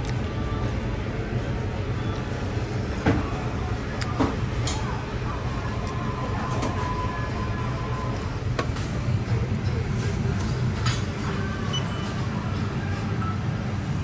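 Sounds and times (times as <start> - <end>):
restaurant background hum: 0.0 - 14.0.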